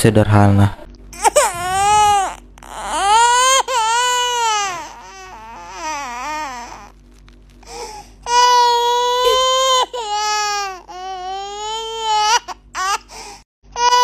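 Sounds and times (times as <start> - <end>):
baby crying: 1.2 - 6.9, 7.7 - 14.0.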